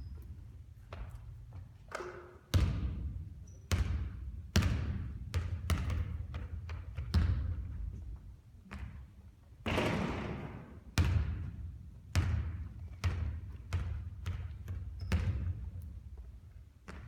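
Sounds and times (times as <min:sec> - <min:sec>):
basketball bouncing on a court: 0:00.0 - 0:08.1, 0:08.7 - 0:17.0.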